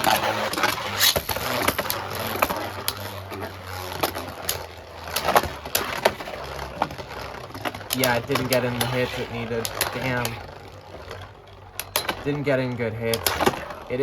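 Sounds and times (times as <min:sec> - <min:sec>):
spinning tops whirring: 0:00.0 - 0:14.0.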